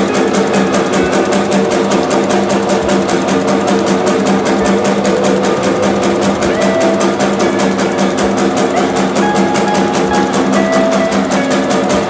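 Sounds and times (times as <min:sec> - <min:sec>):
fast mechanical clatter: 0:00.0 - 0:12.0
motor hum: 0:00.0 - 0:12.0.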